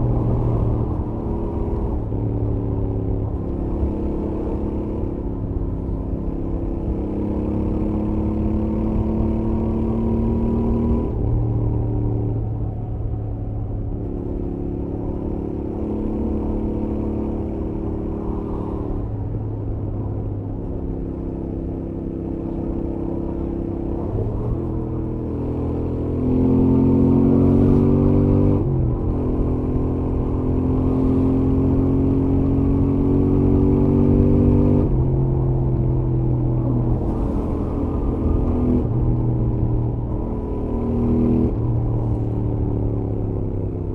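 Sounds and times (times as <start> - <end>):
motorcycle engine at highway speed: 0.0 - 43.9.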